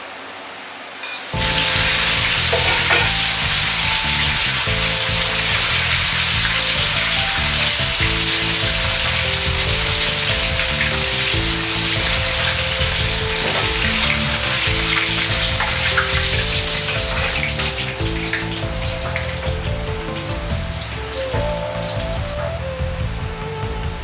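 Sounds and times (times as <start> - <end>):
food deep-frying in hot oil: 1.0 - 23.1
background music: 1.4 - 24.0.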